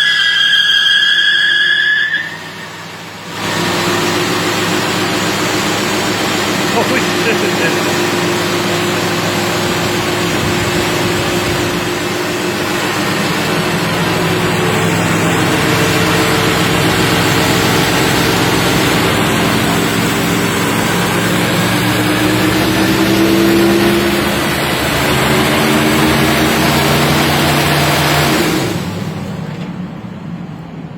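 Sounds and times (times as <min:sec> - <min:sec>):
engine running hard under load: 0:02.1 - 0:30.9.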